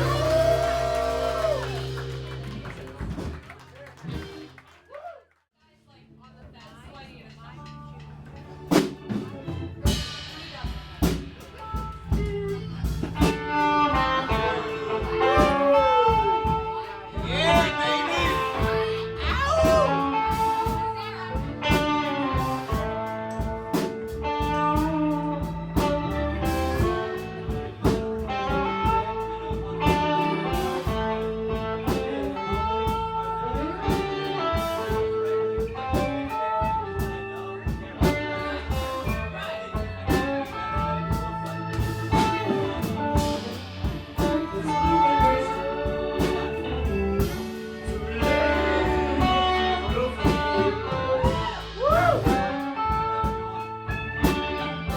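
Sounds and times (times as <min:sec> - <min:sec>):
electric guitar lead: 0:00.0 - 0:04.7, 0:08.1 - 0:54.9
band playing blues: 0:00.0 - 0:04.8, 0:06.5 - 0:54.9.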